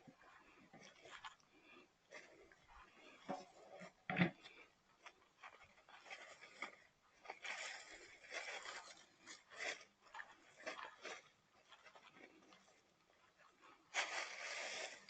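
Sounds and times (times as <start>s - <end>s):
rustling and scraping handling noises: 0.0s - 15.0s.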